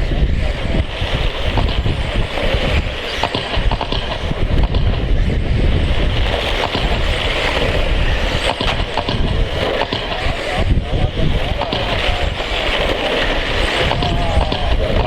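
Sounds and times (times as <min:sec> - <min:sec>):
electric motor whir: 0:00.0 - 0:15.0
wind buffeting microphone: 0:00.0 - 0:15.0.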